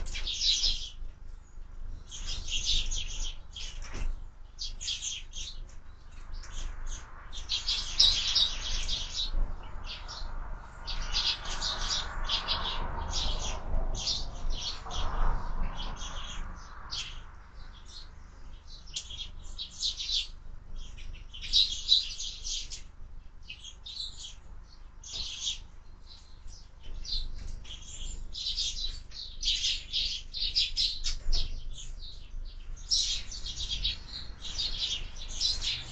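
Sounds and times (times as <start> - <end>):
sparrows chirping: 0.0 - 35.9.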